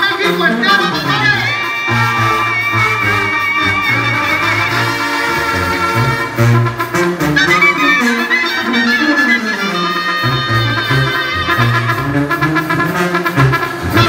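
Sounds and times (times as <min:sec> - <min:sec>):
clarinets playing melody: 0:00.0 - 0:14.0
tuba bass line: 0:00.0 - 0:14.0.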